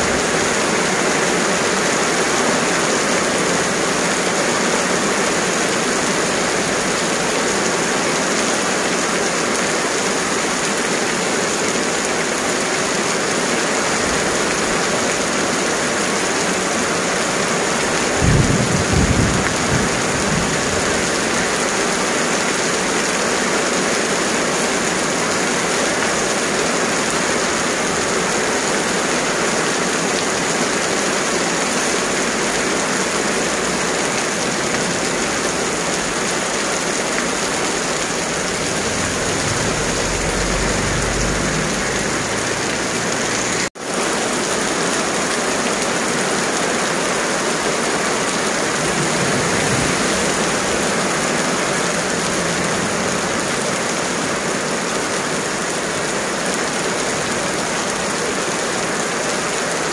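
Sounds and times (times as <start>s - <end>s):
heavy rain on asphalt: 0.0s - 59.9s.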